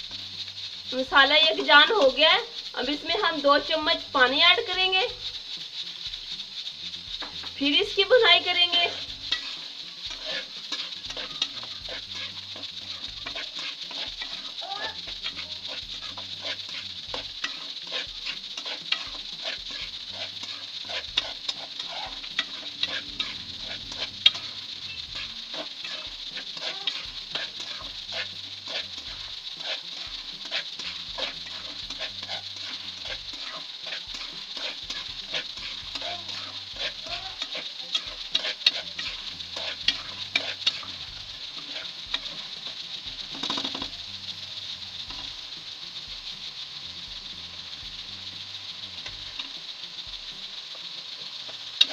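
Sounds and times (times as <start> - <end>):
metal spatula scraping a pan: 0.0 - 45.5, 51.4 - 51.9
food sizzling in hot oil: 0.0 - 51.9.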